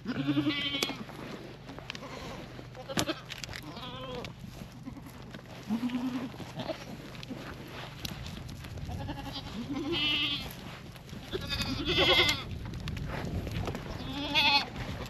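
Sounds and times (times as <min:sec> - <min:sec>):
goats bleating: 0:00.0 - 0:08.0, 0:08.7 - 0:12.6, 0:13.8 - 0:15.0
low steady hum: 0:00.0 - 0:15.0.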